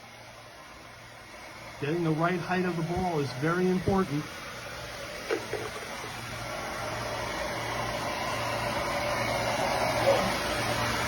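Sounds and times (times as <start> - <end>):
hair dryers running: 0.0 - 11.0.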